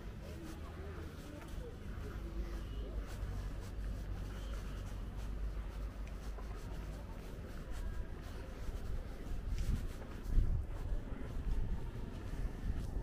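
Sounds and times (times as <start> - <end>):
faint footsteps on gritty concrete: 0.0 - 13.0
low steady outdoor rumble: 0.0 - 13.0.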